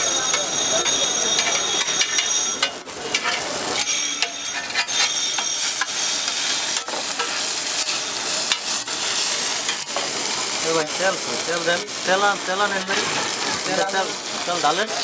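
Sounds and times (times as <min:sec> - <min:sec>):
metal spatula scraping griddle: 0:00.0 - 0:14.9
meat sizzling on a griddle: 0:00.0 - 0:15.0.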